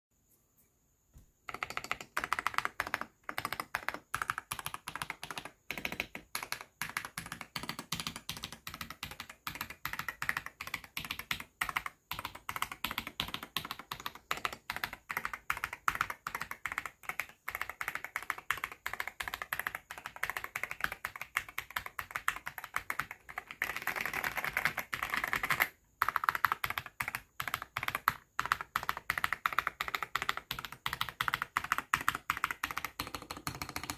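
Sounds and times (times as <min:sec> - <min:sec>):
mechanical keyboard typing: 0:01.4 - 0:33.9.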